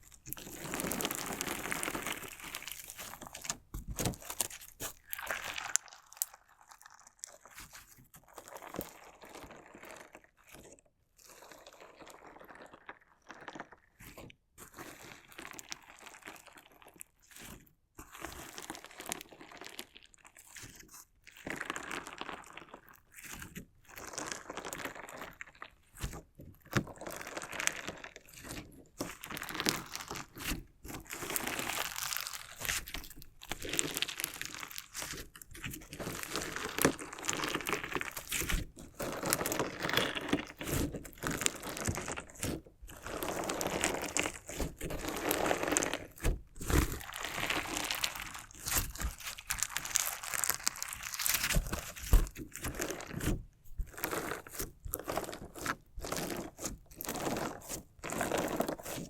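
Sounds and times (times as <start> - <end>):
crunchy slime crackling: 0.0 - 10.7, 21.4 - 59.0.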